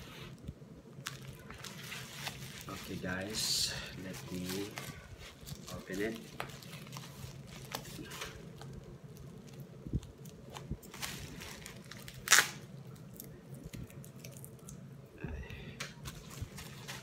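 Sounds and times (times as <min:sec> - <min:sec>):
plastic film crinkling: 0:01.0 - 0:14.8, 0:15.8 - 0:17.0.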